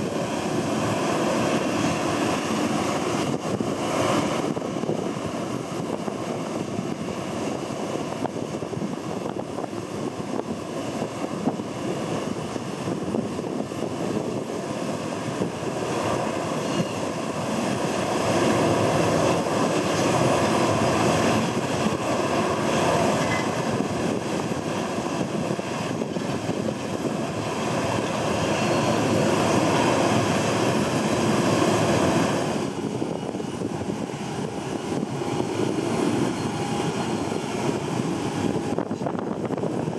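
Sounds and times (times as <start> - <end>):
airliner engines running: 0.0 - 39.9
wind buffeting microphone: 0.0 - 39.9.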